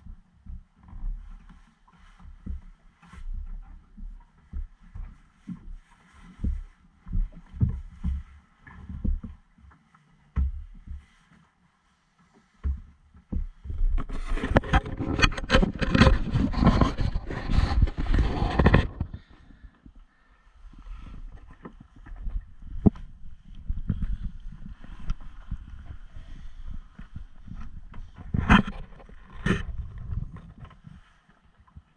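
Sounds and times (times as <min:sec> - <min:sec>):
crackling rustling on microphone: 0:00.0 - 0:31.9.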